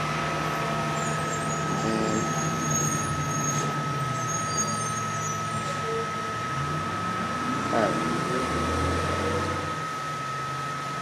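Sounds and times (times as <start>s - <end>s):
high whine: 0.0s - 11.0s
printer hum: 0.0s - 11.0s
stepper motor tones: 0.0s - 11.0s.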